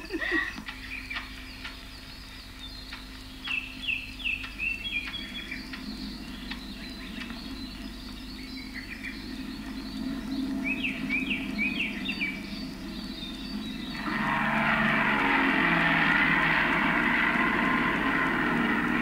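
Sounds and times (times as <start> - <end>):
steady low hum: 0.0 - 19.0
bird chirping: 0.3 - 19.0.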